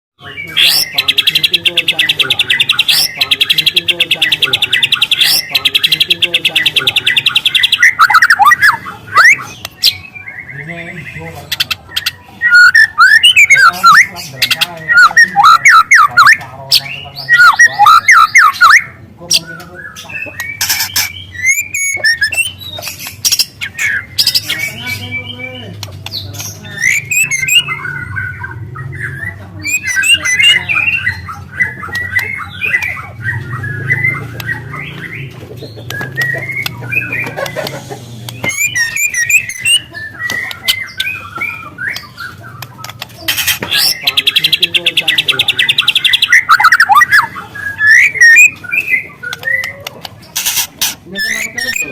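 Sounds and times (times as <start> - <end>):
bird singing trills and whistles: 0.2 - 51.9.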